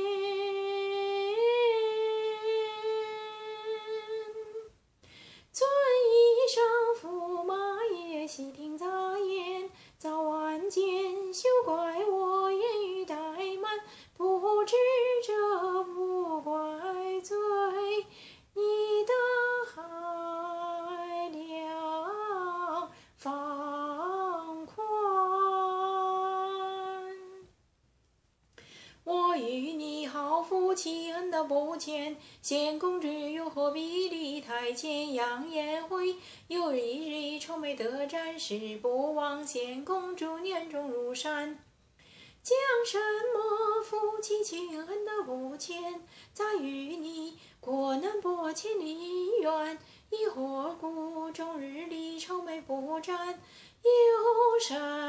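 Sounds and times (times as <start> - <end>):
woman singing opera: 0.0 - 4.8, 5.5 - 27.5, 29.0 - 41.6, 42.4 - 55.0.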